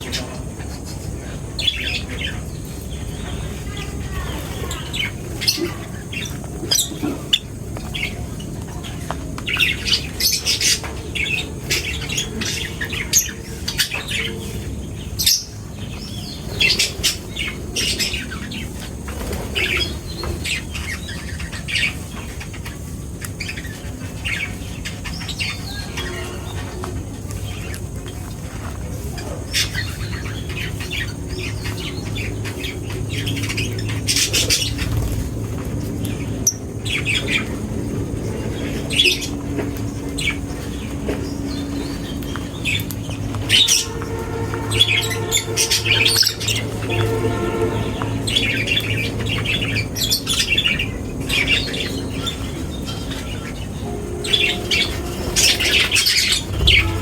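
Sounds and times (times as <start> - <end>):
birds chirping and squawking: 0.0 - 57.0
low background hum: 0.0 - 57.0.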